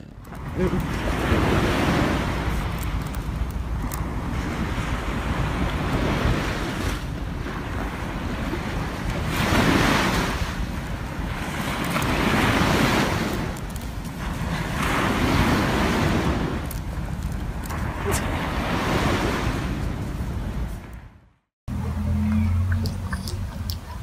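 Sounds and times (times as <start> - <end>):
wind rumbling on microphone: 0.0 - 24.0
surf washing in: 0.3 - 20.9.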